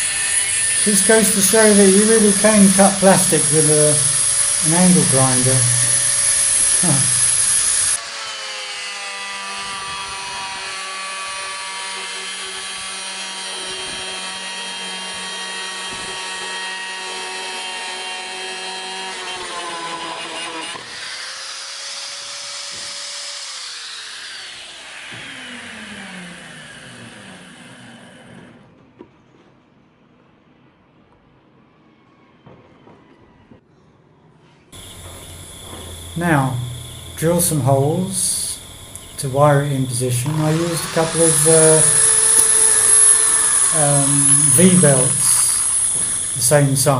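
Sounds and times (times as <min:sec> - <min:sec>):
angle grinder cutting plastic: 0:00.0 - 0:28.5, 0:34.8 - 0:46.9
angle grinder whining: 0:00.0 - 0:28.6, 0:34.8 - 0:46.9.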